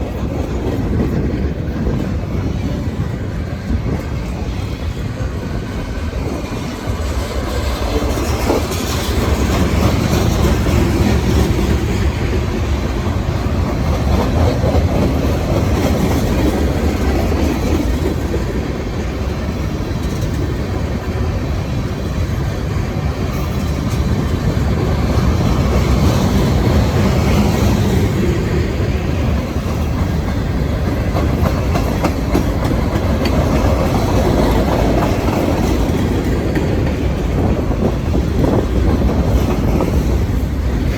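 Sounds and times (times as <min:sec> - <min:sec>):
clatter over rail joints: 0:00.0 - 0:21.3, 0:22.1 - 0:40.9
freight train wheels on rail: 0:00.0 - 0:40.9.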